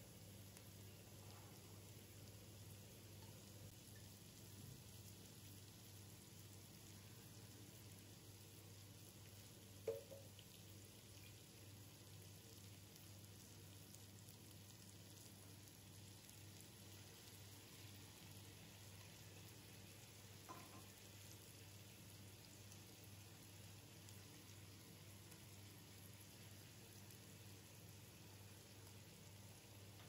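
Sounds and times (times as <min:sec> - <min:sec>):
sausage and vegetables sizzling: 0:00.0 - 0:30.0.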